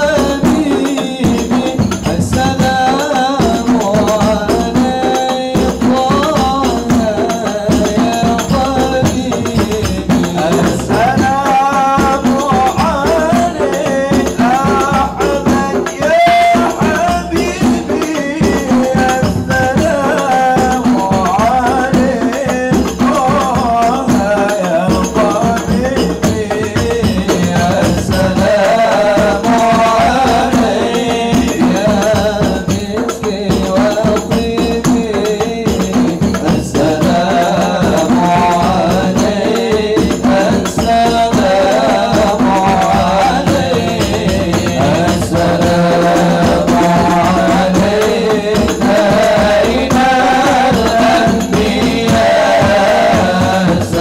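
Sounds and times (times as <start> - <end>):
frame drums and hand percussion: 0.0 - 54.0.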